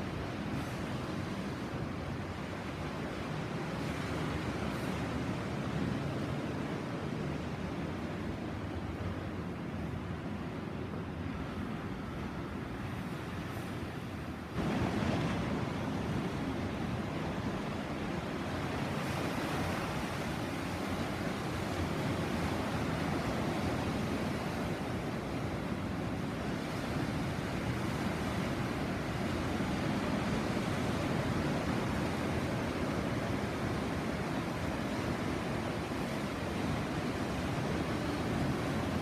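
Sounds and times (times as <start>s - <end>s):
waves breaking on shore: 0.0s - 39.0s.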